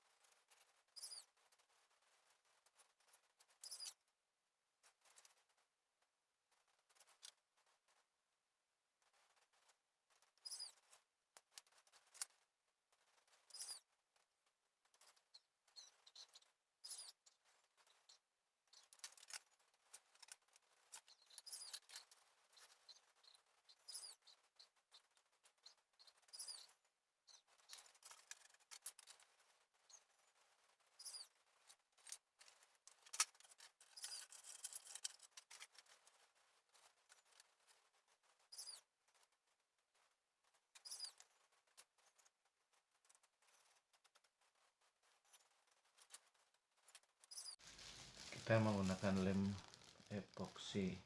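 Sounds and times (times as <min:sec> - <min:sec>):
foam scratching and squeaking: 0:00.2 - 0:04.0, 0:09.0 - 0:51.0.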